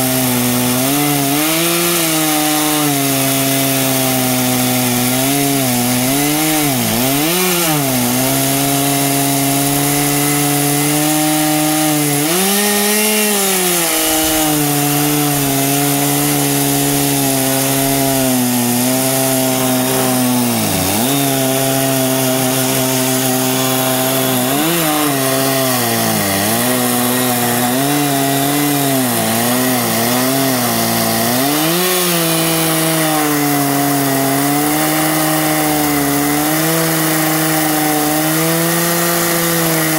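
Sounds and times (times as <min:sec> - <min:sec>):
chainsaw ripping through log: 0:00.0 - 0:39.9.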